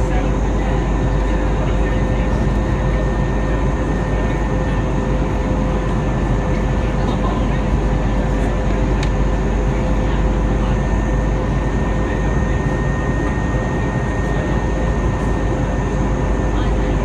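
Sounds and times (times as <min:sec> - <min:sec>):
airplane cabin engine rush: 0:00.0 - 0:17.0
faint steady whines: 0:00.0 - 0:17.0.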